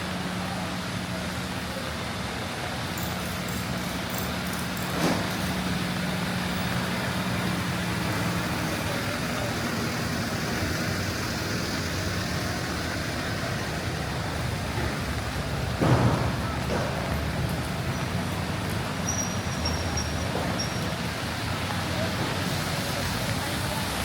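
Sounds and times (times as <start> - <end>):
rain hiss: 0.0 - 24.0
vehicle engine idling: 0.0 - 24.0
wet street traffic: 0.0 - 24.0.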